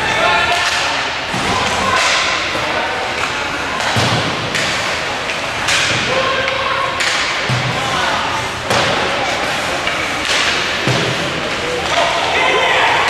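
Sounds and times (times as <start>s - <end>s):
faint voices: 0.0s - 13.0s
loud arena din: 0.0s - 13.0s
thuds of hockey play: 0.6s - 6.3s, 7.0s - 12.2s.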